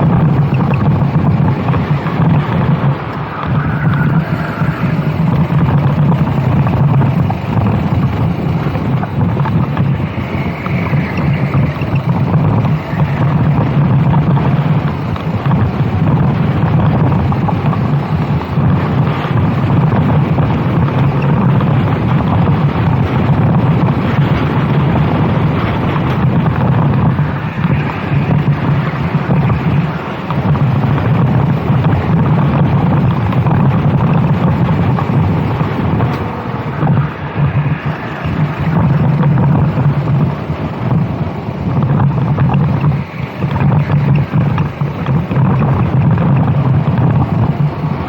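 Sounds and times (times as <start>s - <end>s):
go-kart engine racing: 0.0s - 48.0s
wind buffeting microphone: 0.0s - 48.0s.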